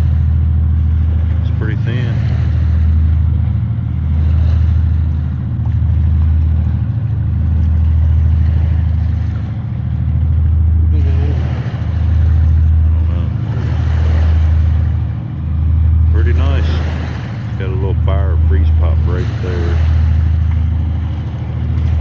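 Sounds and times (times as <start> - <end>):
low engine-like hum: 0.0 - 22.0.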